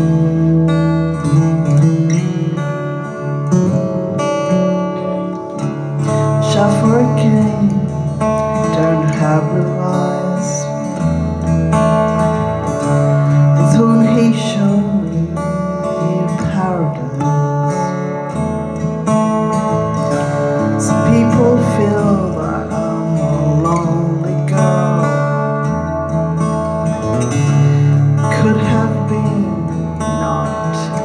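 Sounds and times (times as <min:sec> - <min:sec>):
acoustic guitar chords: 0:00.0 - 0:31.0.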